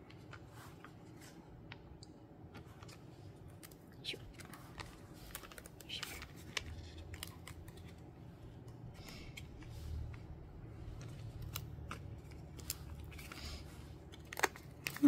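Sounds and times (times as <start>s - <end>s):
paper and cardboard handling: 2.5s - 15.0s
paper rustles: 2.5s - 15.0s.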